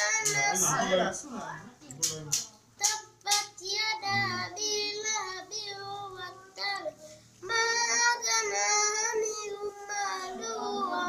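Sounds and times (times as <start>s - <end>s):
child chanting melodic recitation: 0.0s - 0.9s, 2.8s - 11.0s.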